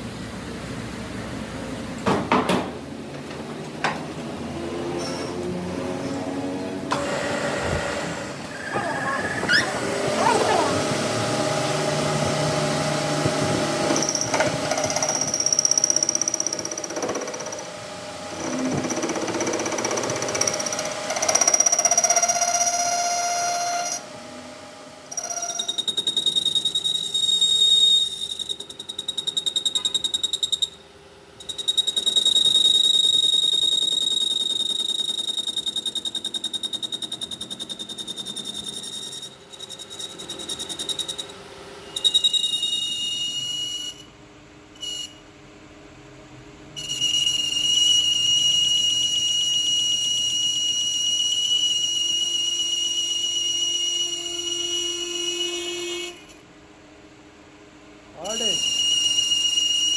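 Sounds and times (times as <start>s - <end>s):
high-pitched machine whine: 4.5s - 45.3s, 46.7s - 56.5s, 58.1s - 59.9s.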